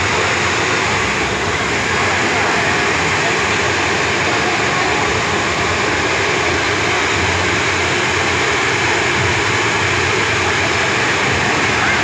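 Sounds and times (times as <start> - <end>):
blower fan rush of air: 0.0 - 12.0.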